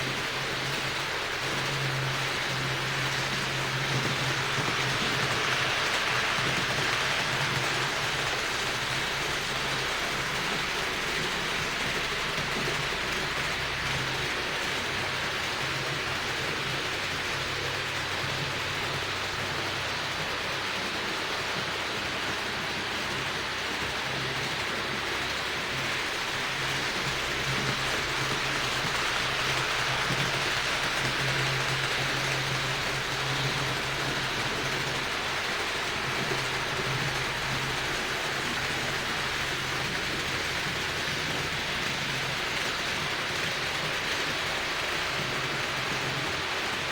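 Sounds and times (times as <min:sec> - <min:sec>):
model train rushing hiss: 0:00.0 - 0:46.9.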